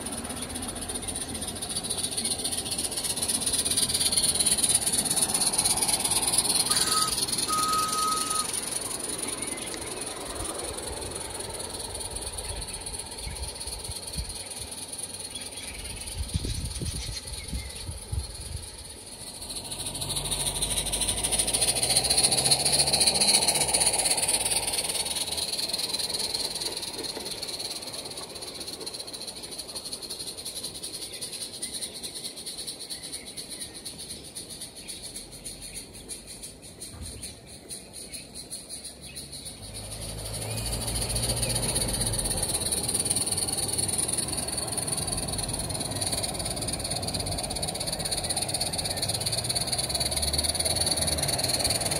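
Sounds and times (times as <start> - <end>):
steam locomotive hissing: 0.0 - 31.6, 39.9 - 51.9
wheels rattling on track: 0.0 - 51.9.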